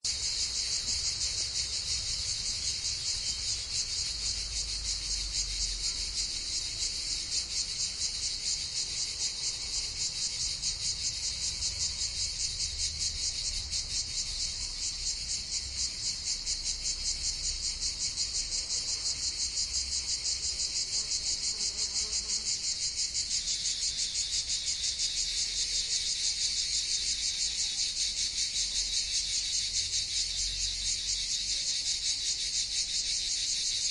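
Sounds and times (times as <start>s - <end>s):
cicadas buzzing: 0.0s - 33.9s.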